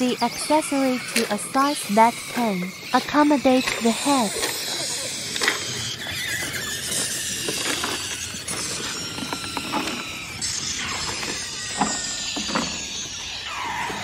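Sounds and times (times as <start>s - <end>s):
dry ice pellets rattling: 0.0s - 13.1s
dry ice squealing on metal: 0.0s - 14.0s.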